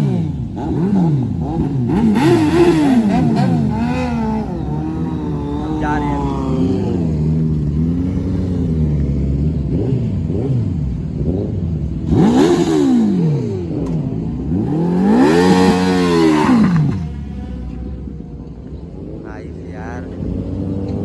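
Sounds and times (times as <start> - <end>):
motorbike engines revving: 0.0 - 21.0.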